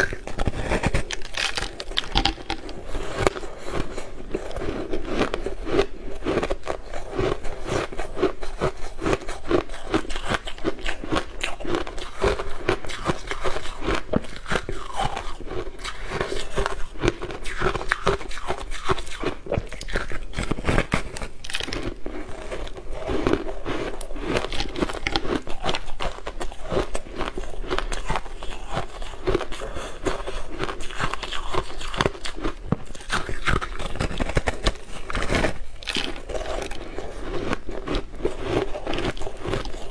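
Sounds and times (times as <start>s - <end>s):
ice crunching as chewed: 0.0s - 39.9s.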